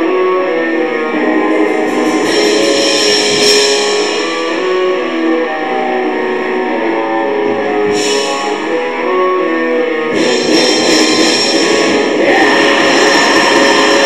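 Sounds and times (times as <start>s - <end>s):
cymbal wash: 0.0s - 6.5s, 7.8s - 9.2s, 10.0s - 14.0s
guitar slow melody: 0.0s - 14.0s.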